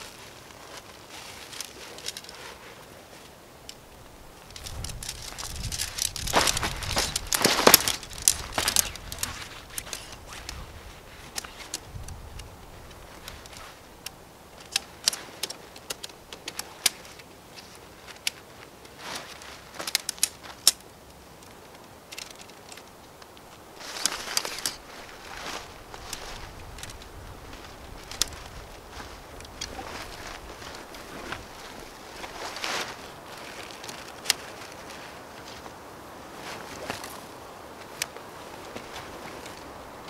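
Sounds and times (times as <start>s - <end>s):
rustling handling noise: 0.0s - 40.0s
tent poles clicking: 0.0s - 40.0s.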